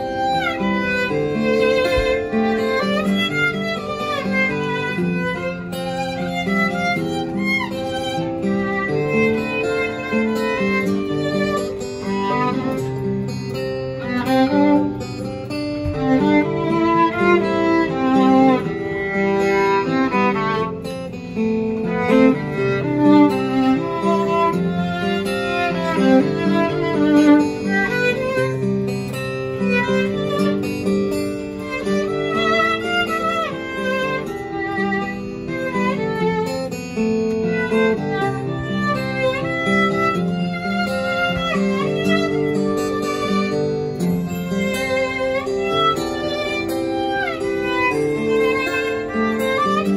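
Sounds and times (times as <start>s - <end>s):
acoustic guitar: 0.0s - 49.9s
violin playing bowed notes: 0.0s - 49.9s.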